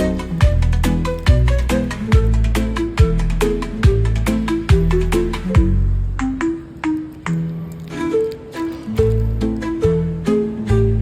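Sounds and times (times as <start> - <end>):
light melody with soft beat: 0.0 - 11.0.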